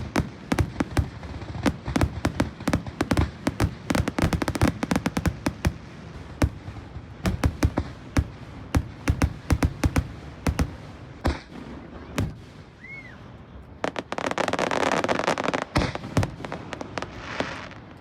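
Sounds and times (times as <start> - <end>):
firework crackling: 0.0 - 13.0, 13.8 - 18.0
firework bangs: 0.0 - 13.2, 13.8 - 18.0.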